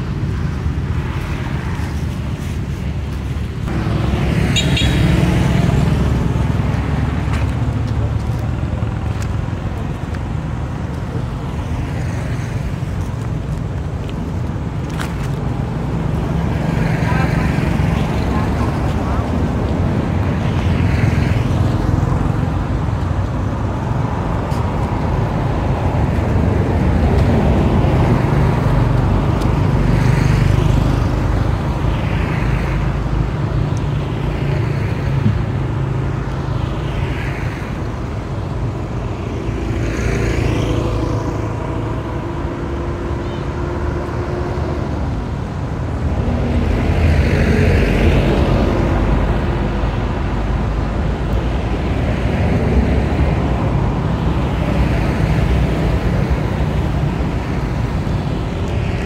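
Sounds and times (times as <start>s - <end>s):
cars and motorbikes passing: 0.0s - 59.0s
traffic rumble: 0.0s - 59.0s.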